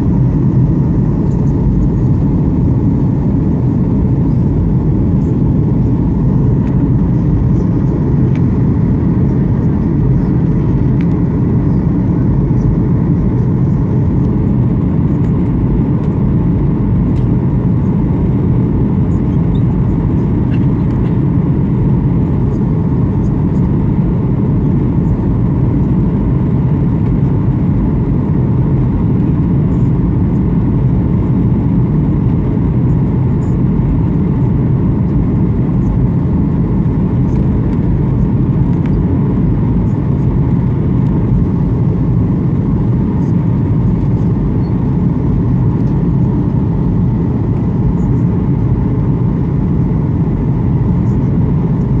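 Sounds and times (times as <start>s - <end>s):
aircraft cabin engine rumble: 0.0s - 52.0s
faint steady whine: 0.0s - 52.0s.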